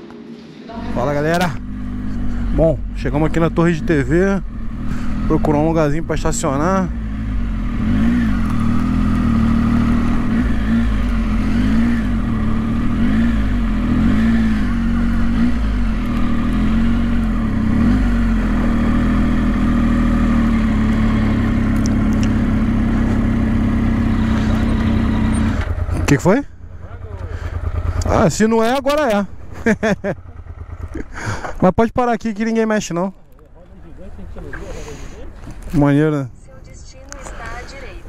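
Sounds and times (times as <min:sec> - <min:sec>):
motorcycle engine running: 0:00.8 - 0:31.6.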